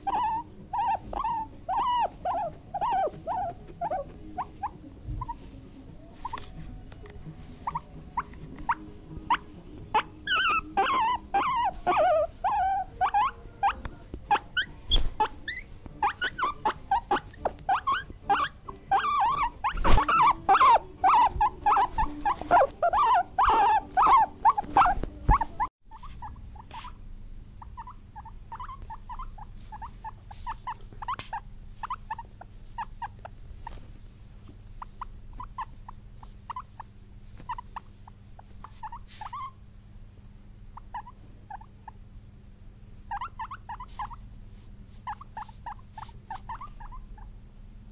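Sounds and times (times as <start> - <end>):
guinea pig squeaking: 0.0 - 34.0, 34.7 - 39.9, 40.7 - 42.0, 43.0 - 47.9.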